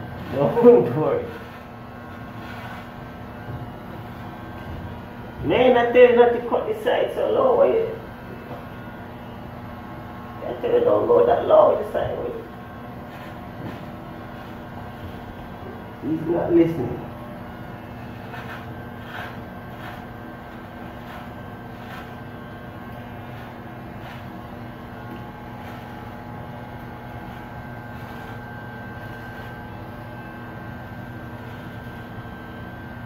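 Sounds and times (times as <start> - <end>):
clippers scratching through hair: 0.0 - 6.8, 8.4 - 33.0
electric hair clippers buzzing: 0.0 - 33.0.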